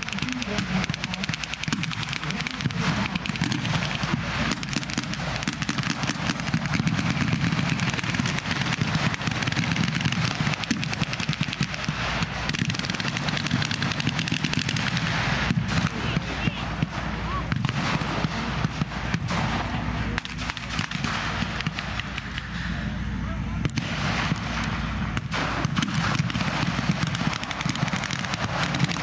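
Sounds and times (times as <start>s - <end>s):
machine guns firing bursts: 0.0s - 22.5s, 23.7s - 29.0s.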